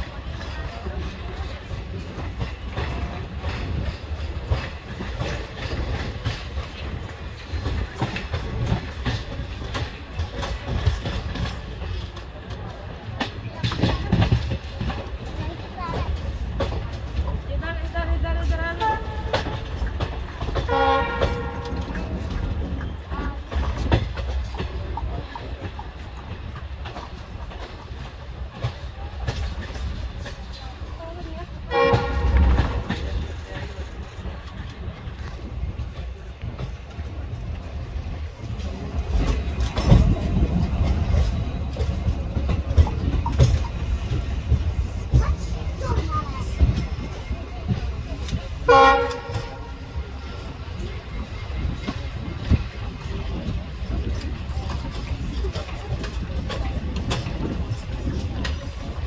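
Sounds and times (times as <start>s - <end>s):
train low rumble: 0.0s - 59.0s
wheels clicking over rail joints: 0.0s - 59.0s.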